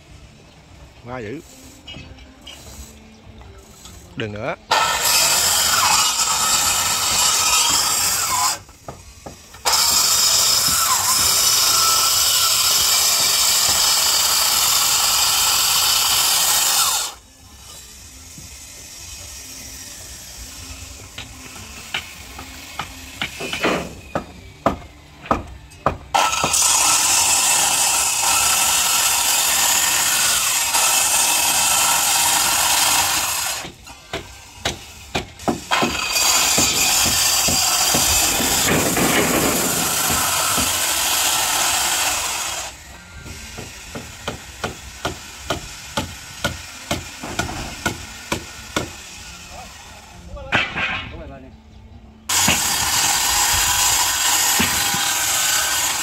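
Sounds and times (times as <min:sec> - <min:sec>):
circular saw cutting wood: 0:01.0 - 0:50.2, 0:52.3 - 0:56.0.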